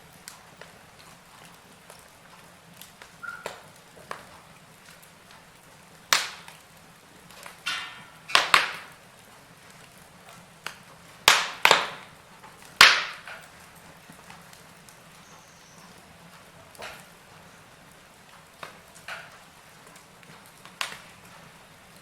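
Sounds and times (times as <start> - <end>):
burning logs popping: 0.0 - 22.0
wood fire crackling: 0.0 - 22.0.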